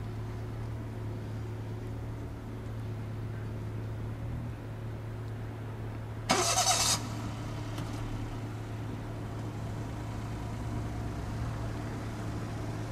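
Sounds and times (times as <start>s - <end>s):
low engine hum: 0.0s - 12.9s.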